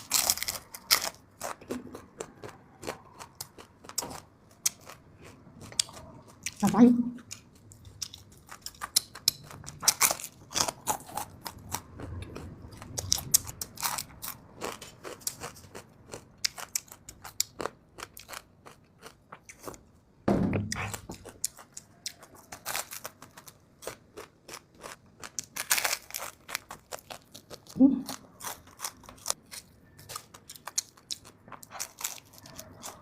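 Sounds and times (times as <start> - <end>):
chewing and crunching fish: 0.0 - 6.6, 7.3 - 19.8, 20.8 - 33.0.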